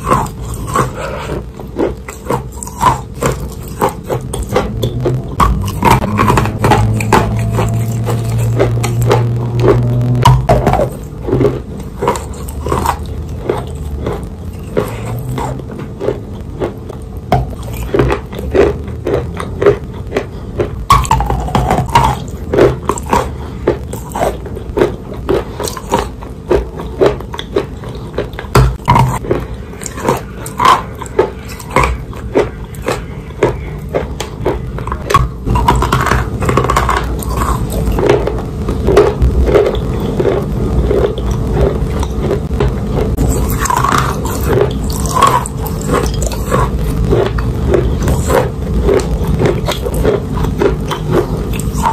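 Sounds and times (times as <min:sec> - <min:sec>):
chewing wet chalk: 0:00.0 - 0:51.9.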